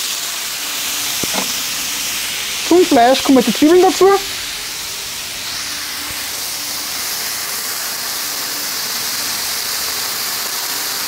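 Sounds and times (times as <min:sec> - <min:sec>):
steak and onions sizzling: 0:00.0 - 0:11.0.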